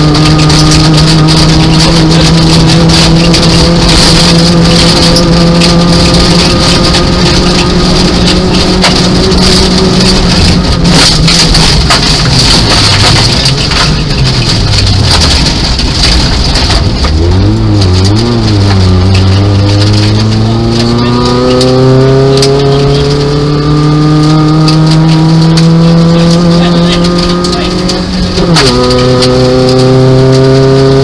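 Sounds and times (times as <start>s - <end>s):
car engine at high revs: 0.0s - 31.0s
gravel pinging against car underside: 0.0s - 31.0s.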